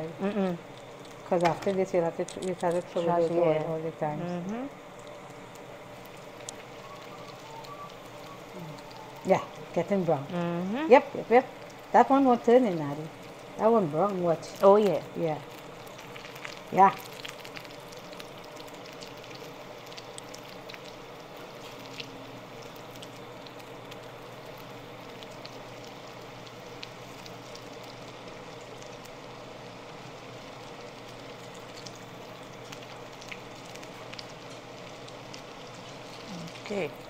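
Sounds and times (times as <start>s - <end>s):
oil sizzling: 0.0s - 37.0s.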